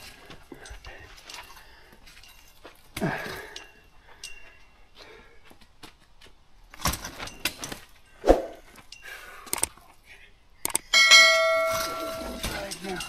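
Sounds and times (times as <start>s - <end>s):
metallic clinks of camp gear: 0.0s - 13.0s.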